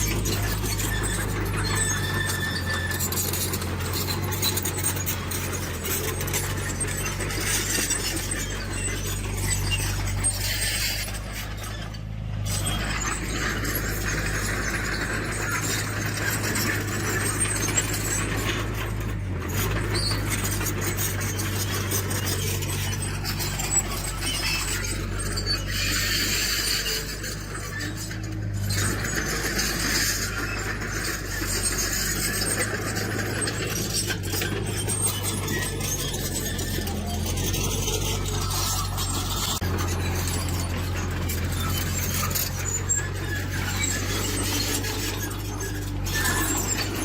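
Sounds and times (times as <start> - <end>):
diesel engine running: 0.0 - 47.0
metallic track clanking: 0.0 - 47.0.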